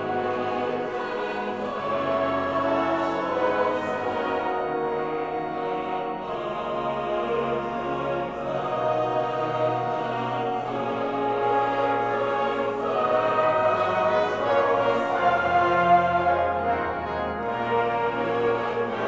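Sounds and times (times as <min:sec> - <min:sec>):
boys' choir singing: 0:00.0 - 0:19.0.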